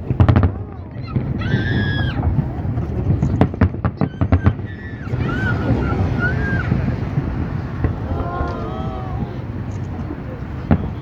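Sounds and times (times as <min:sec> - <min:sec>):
fireworks cracking and banging: 0:00.0 - 0:11.0
crowd murmur: 0:02.2 - 0:11.0.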